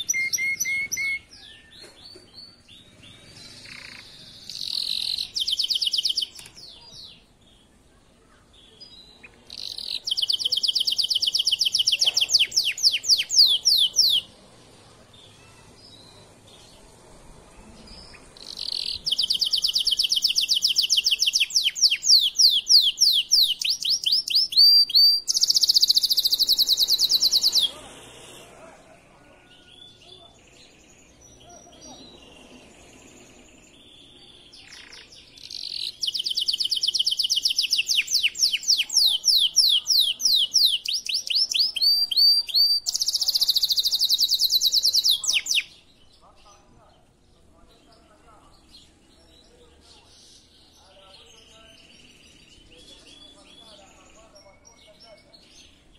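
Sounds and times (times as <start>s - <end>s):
canary singing trills: 0.0s - 28.4s, 29.4s - 46.7s.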